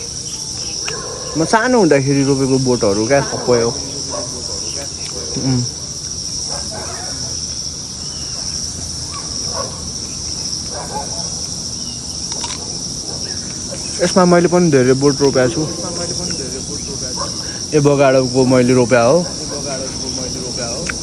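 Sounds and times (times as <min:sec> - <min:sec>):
shrill insect chorus: 0:00.0 - 0:21.0.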